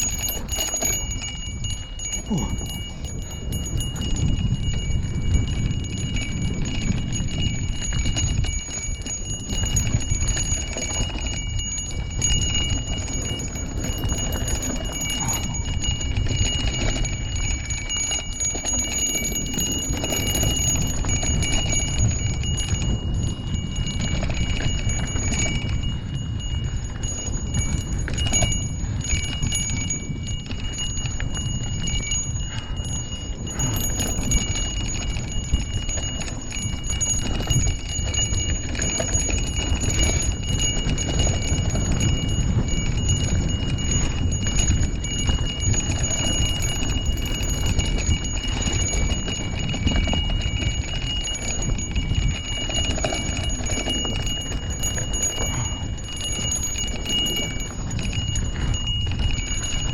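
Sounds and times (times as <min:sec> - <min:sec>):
bicycle bell ringing: 0:00.0 - 0:59.9
wind and road noise: 0:00.0 - 0:59.9.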